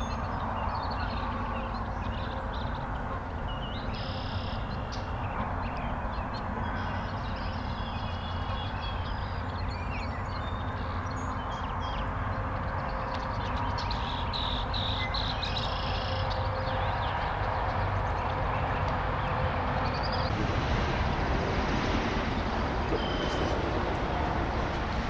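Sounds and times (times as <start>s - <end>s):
birds chirping: 0.0s - 20.4s, 22.4s - 24.8s.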